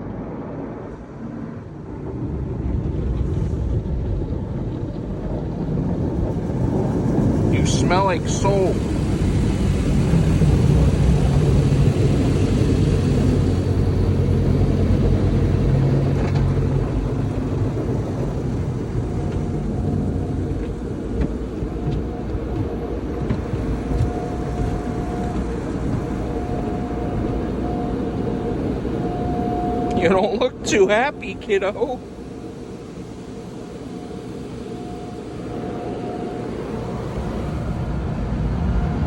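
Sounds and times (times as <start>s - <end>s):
car wash machinery rumble: 0.0s - 39.0s
deep drone: 0.0s - 39.0s
steady whine: 0.0s - 39.0s.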